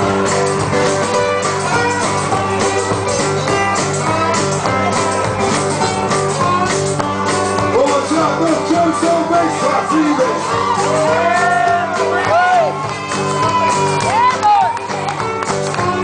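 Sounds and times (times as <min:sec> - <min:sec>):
guitar: 0:00.0 - 0:16.0
live band instrumental: 0:00.0 - 0:16.0.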